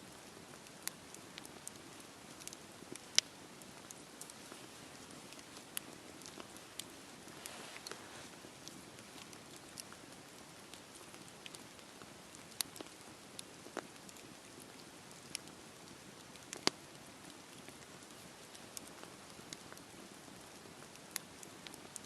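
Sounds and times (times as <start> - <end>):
campfire crackling: 0.0 - 22.0
steady rain hiss: 0.0 - 22.0.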